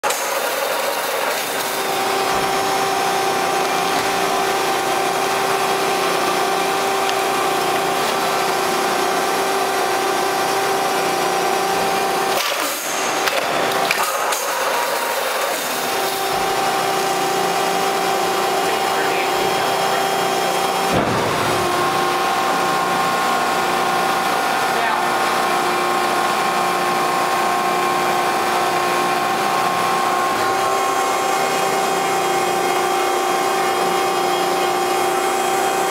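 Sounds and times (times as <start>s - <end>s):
hydraulic pump whine: 0.0s - 35.9s.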